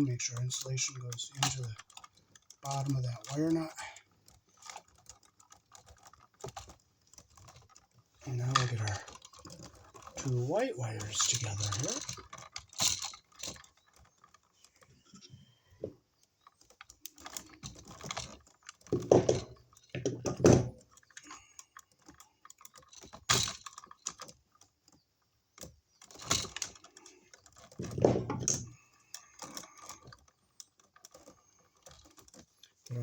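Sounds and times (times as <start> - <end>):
electrical wires clicking and rustling: 0.0 - 33.0
scrapes and knocks: 1.0 - 21.2, 25.6 - 33.0.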